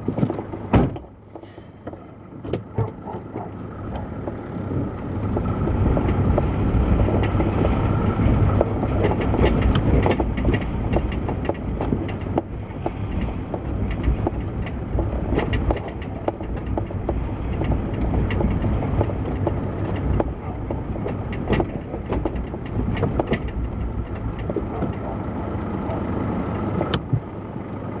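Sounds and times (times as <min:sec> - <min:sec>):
short rattles and knocks: 0:00.0 - 0:03.6, 0:05.3 - 0:25.3
motor running with low rumble: 0:02.8 - 0:28.0.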